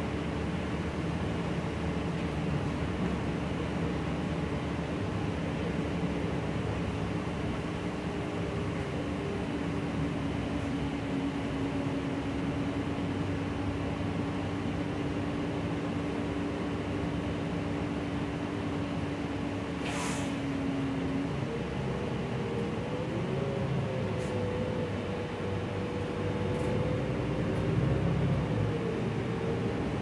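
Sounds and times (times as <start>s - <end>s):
bus cabin engine and road noise: 0.0s - 30.0s.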